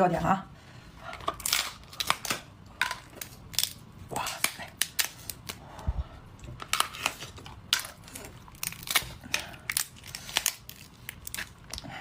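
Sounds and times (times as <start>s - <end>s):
seafood cracking and crunching: 1.2s - 5.6s, 6.5s - 12.0s.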